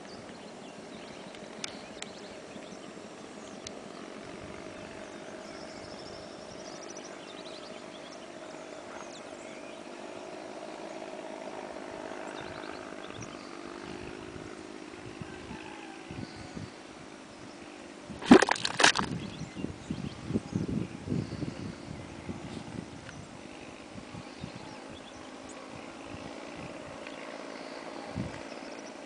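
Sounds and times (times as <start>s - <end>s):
engine drone: 0.0s - 19.8s, 21.0s - 29.0s.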